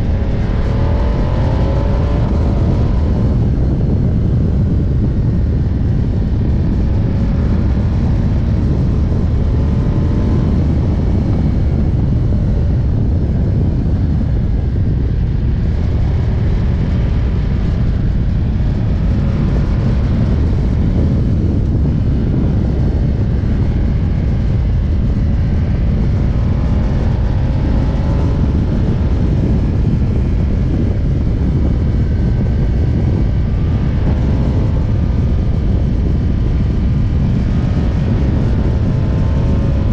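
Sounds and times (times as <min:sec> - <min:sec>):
motorcycle engine running: 0:00.0 - 0:39.9
wind rumble: 0:00.0 - 0:39.9.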